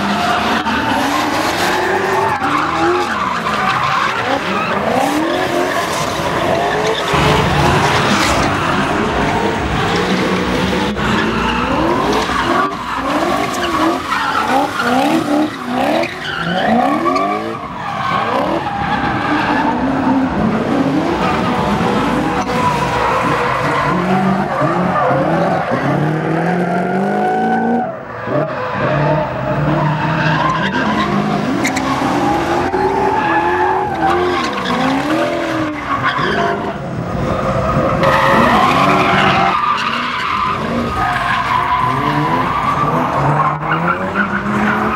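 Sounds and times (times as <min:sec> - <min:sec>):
tyres squealing on tarmac: 0:00.0 - 0:26.0, 0:26.8 - 0:44.9
car engines revving: 0:00.0 - 0:44.9.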